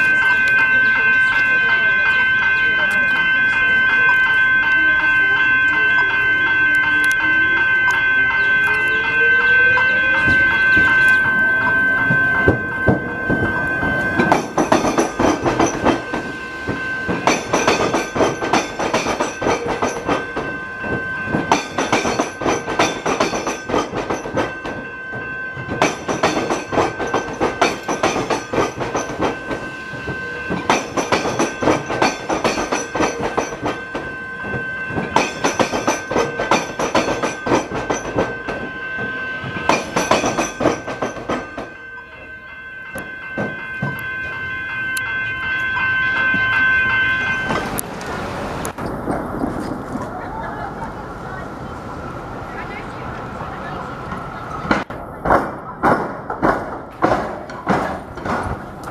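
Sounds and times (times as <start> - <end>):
steady high tone: 0.0 - 48.8
train wheels clattering over crossing: 4.1 - 41.9, 42.9 - 44.9, 45.7 - 51.0, 54.0 - 58.9.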